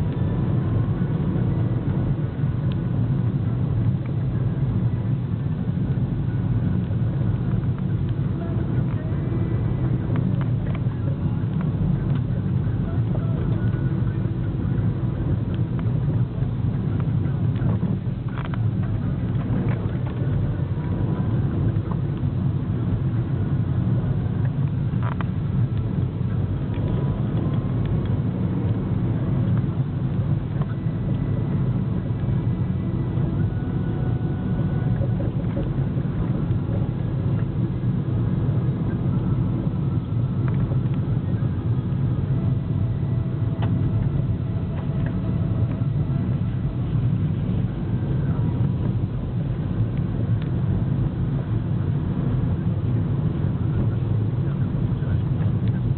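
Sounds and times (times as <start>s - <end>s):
car engine: 0.0s - 55.9s
road rumble: 0.0s - 55.9s.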